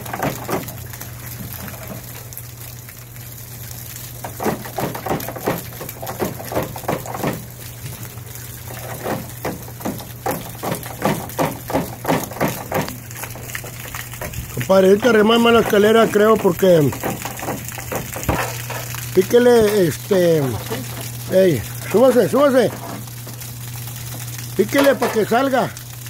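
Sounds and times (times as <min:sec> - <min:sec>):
water splashing from gutter: 0:00.0 - 0:26.0
water splatters: 0:00.0 - 0:26.0.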